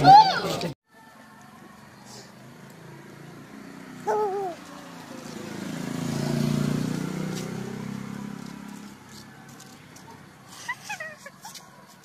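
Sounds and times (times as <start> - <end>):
vehicle engine passing by: 1.6 - 11.8.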